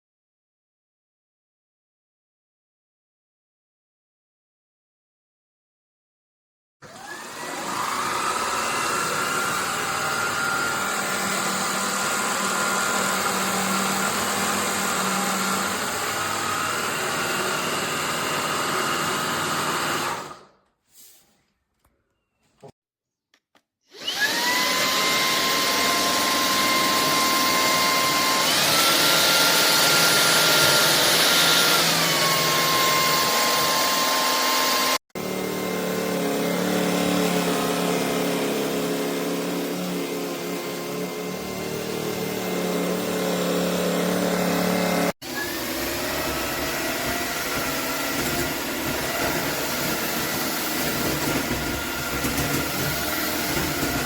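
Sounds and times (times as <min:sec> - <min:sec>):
vacuum cleaner motor whining: 0:06.8 - 0:20.6, 0:23.9 - 0:54.0.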